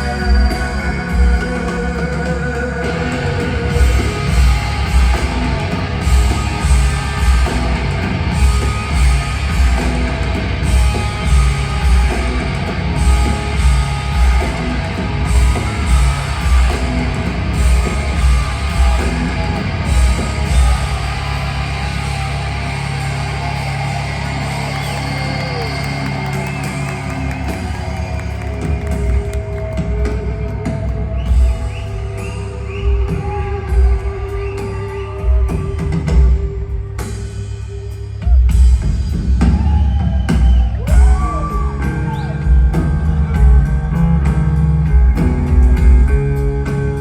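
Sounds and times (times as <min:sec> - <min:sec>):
rock band playing live: 0:00.0 - 0:47.0.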